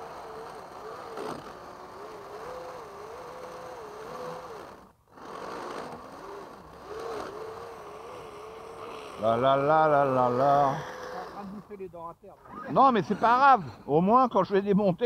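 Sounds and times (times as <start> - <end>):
electric motor whining: 0.0 - 13.6.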